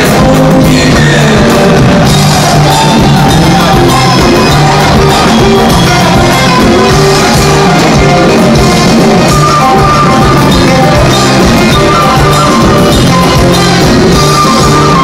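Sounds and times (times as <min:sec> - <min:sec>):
bass guitar: 0:00.0 - 0:15.0
congas and hand drums: 0:00.0 - 0:15.0.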